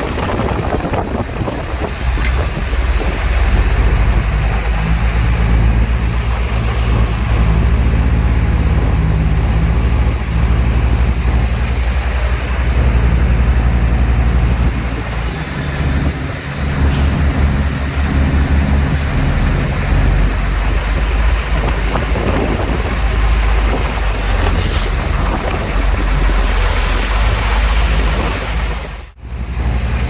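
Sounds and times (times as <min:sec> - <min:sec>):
heavy diesel engine droning: 0:00.0 - 0:30.0.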